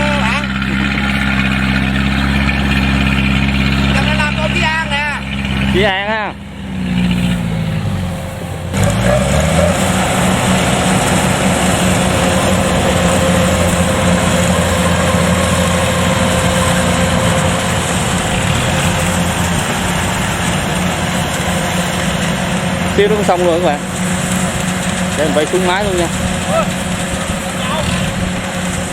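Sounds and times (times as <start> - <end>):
combine harvester engine drone: 0.0 - 28.9
steady machinery whine: 0.0 - 28.9.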